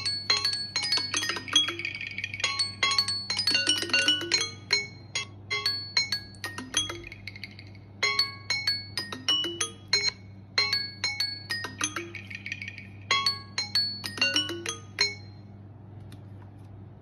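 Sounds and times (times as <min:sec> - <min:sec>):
smartphone alarm chime melody: 0:00.0 - 0:15.5.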